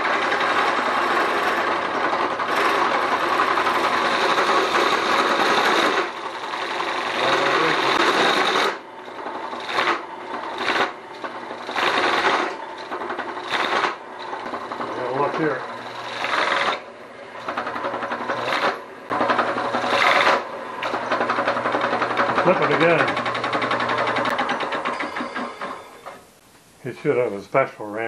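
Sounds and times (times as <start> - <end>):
drill press boring into log: 0.0 - 26.3.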